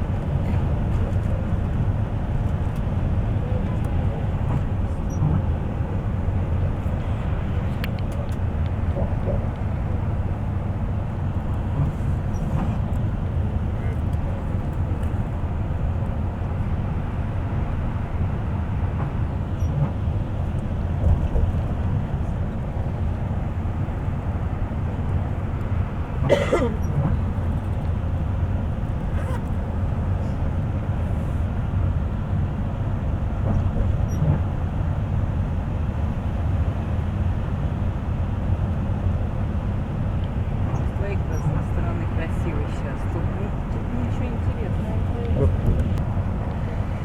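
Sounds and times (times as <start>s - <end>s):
bus engine and road noise: 0.0s - 47.0s.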